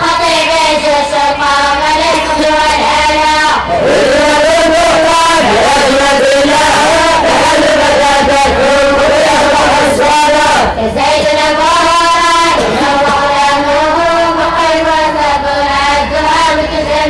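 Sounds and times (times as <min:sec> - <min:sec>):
students chanting in unison: 0:00.0 - 0:17.0.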